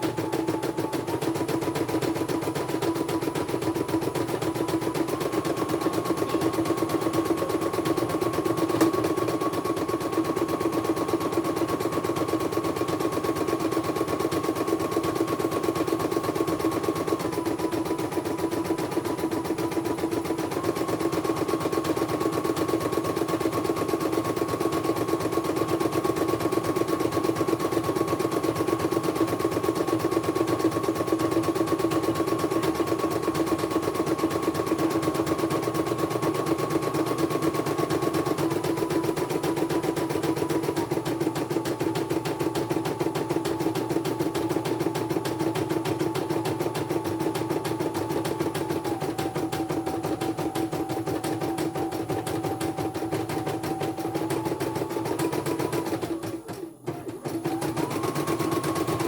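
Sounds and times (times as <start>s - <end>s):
embroidery machine stitching: 0.0s - 59.0s.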